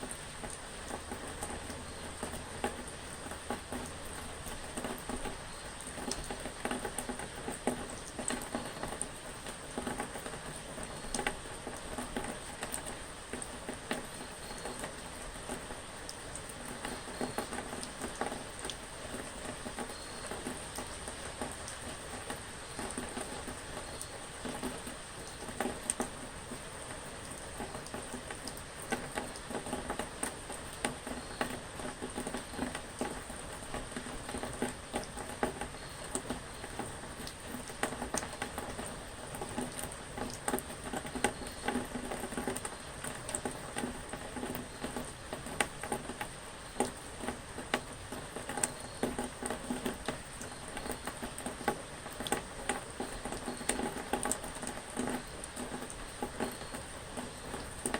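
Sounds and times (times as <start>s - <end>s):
rain pattering on hard surface: 0.0s - 57.9s.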